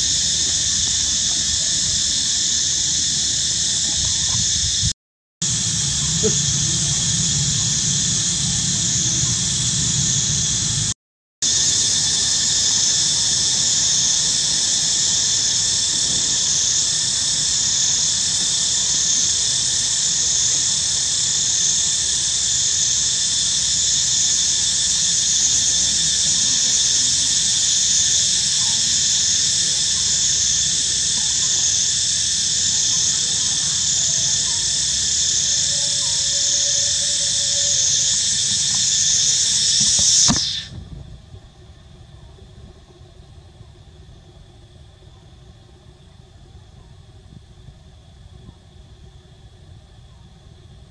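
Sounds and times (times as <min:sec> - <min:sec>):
cicadas buzzing: 0:00.0 - 0:50.9.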